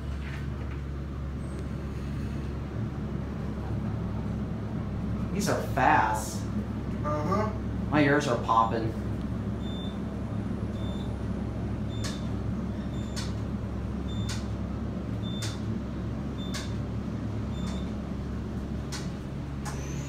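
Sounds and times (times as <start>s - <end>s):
elevator hum and rumble: 0.0s - 20.0s.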